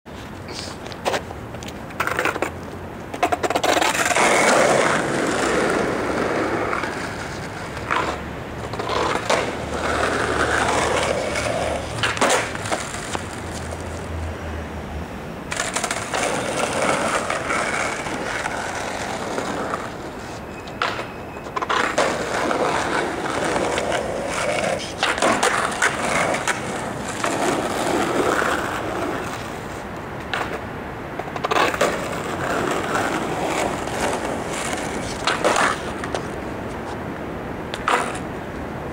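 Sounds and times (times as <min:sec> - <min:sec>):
skateboard wheels rumbling on asphalt: 0:00.1 - 0:38.9
skateboard clacking on pavement: 0:00.3 - 0:14.1, 0:15.5 - 0:38.8.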